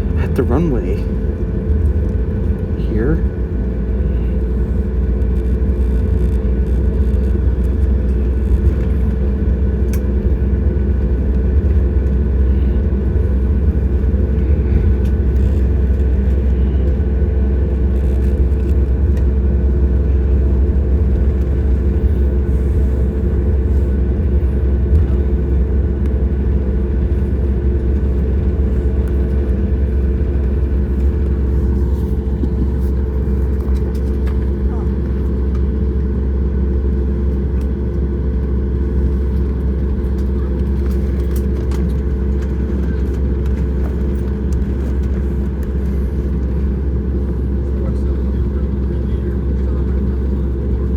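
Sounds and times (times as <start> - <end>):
airplane cabin rumble: 0.0 - 50.9
jet engines idling hum: 0.0 - 50.9.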